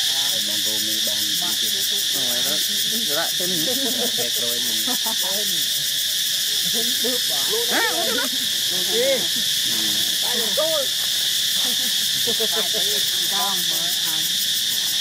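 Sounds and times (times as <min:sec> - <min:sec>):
high drone of forest insects: 0:00.0 - 0:15.0
monkeys cooing and grunting: 0:01.0 - 0:15.0.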